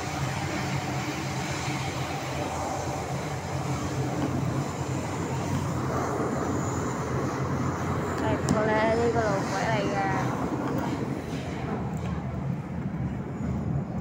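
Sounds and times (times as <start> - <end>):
low motor hum: 0.0 - 14.0
train wheels rumbling on rail: 0.0 - 14.0.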